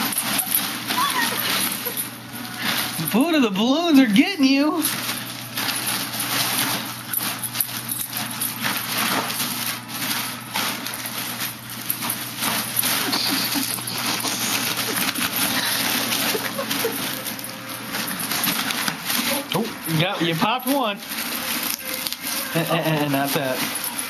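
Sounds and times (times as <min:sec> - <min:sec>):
foil balloons crinkling: 0:00.0 - 0:24.0.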